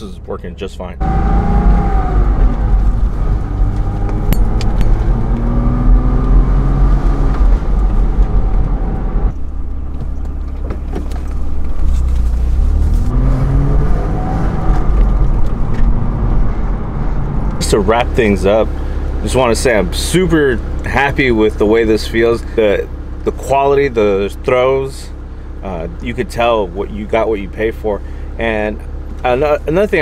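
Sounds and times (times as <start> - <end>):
car engine accelerating: 0.0 - 30.0
low road rumble: 0.0 - 30.0.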